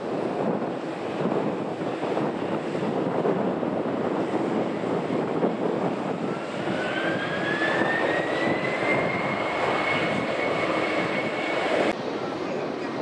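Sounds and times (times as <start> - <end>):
jet engine rush: 0.0 - 13.0
jet engine whine: 0.0 - 13.0.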